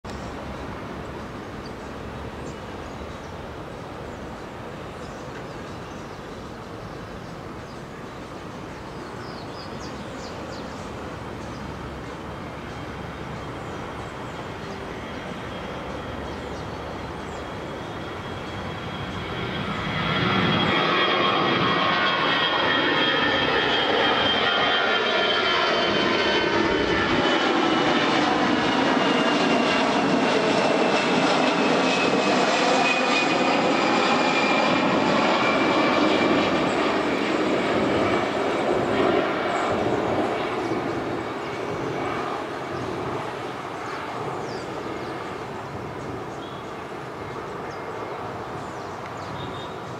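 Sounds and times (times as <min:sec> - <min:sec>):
jet engines roaring: 0:09.6 - 0:49.9.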